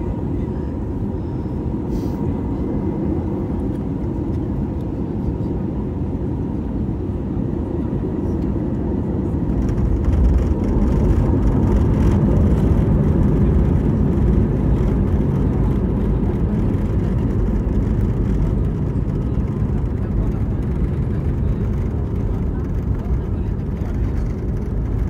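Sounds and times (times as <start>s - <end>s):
jet engines reverse thrust rumble: 0.0s - 25.0s.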